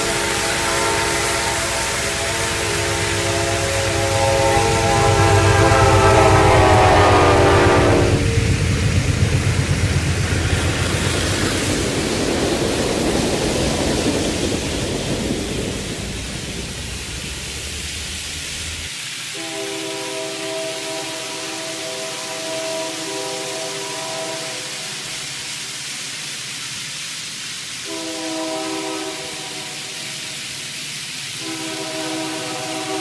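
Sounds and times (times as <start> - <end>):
train wheels rattling on track: 0.0 - 33.0.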